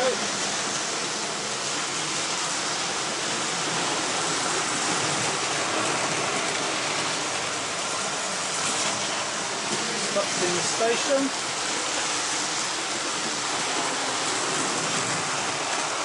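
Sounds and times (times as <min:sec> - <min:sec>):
model train wheels on rails: 0:00.0 - 0:16.0.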